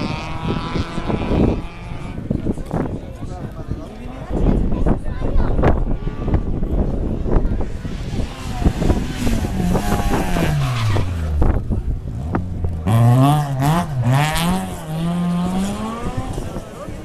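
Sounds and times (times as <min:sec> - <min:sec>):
rally car engine revving: 0:00.0 - 0:02.4, 0:05.6 - 0:17.0
crowd chatter: 0:00.0 - 0:17.0.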